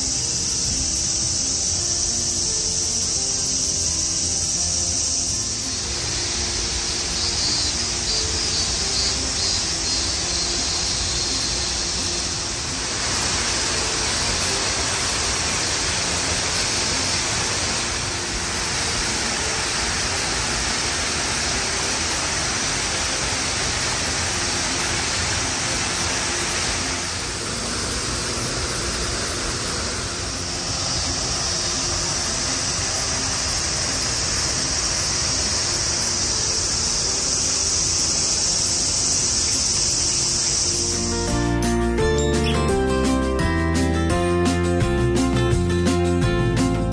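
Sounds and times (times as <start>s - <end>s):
waterfall rushing: 0.0s - 41.5s.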